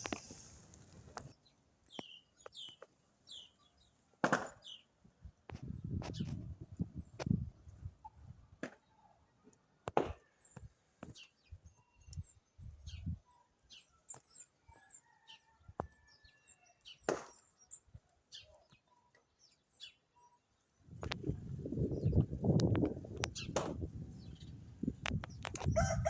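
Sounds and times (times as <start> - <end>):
small birds chirping: 0.0 - 9.6, 10.2 - 26.0.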